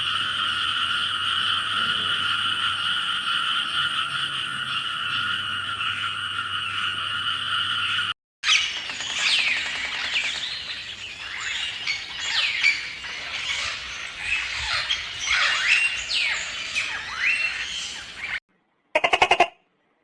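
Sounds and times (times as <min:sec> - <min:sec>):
flock of birds calling: 0:00.0 - 0:18.4.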